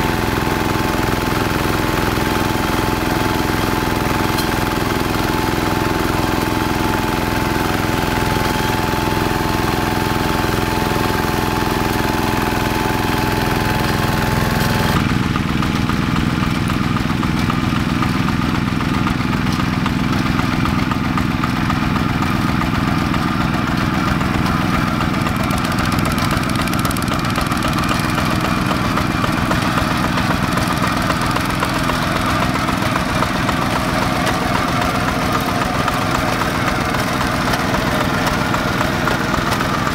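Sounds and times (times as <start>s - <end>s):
diesel hand tractor engine running: 0.0s - 39.9s.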